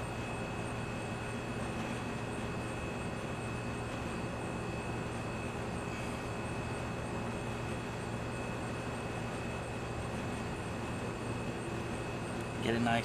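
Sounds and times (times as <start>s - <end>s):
background hum and hiss: 0.0s - 13.0s
faint high whine: 0.0s - 13.0s.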